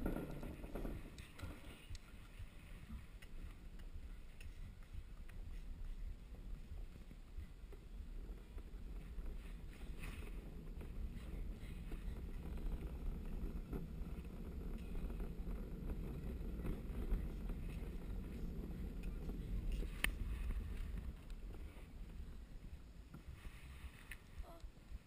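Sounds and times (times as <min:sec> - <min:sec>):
cart wheels rumbling: 0:00.0 - 0:25.0
wind on microphone: 0:00.0 - 0:25.0.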